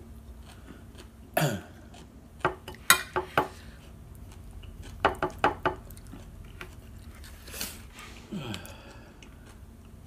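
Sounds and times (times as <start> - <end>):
chewing: 0.3 - 2.9, 3.5 - 10.0.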